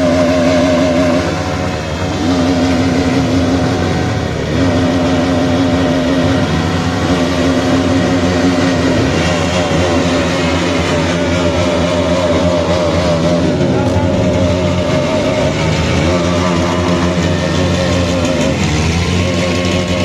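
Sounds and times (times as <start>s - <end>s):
motorcycles revving: 0.0s - 20.0s.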